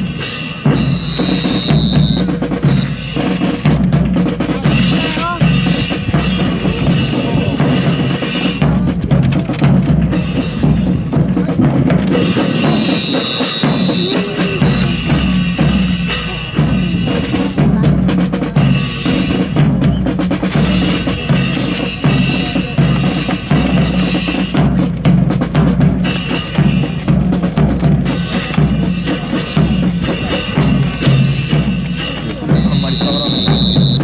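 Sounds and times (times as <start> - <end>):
marching snare and bass drum: 0.0 - 34.0.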